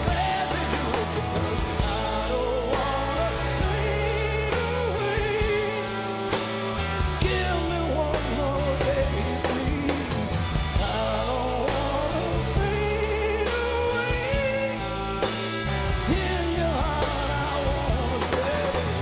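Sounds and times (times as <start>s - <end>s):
man singing: 0.0s - 6.4s, 7.2s - 15.3s, 16.0s - 19.0s
bass guitar: 0.0s - 19.0s
drum beat with cymbals: 0.0s - 19.0s
electric guitars: 0.0s - 19.0s.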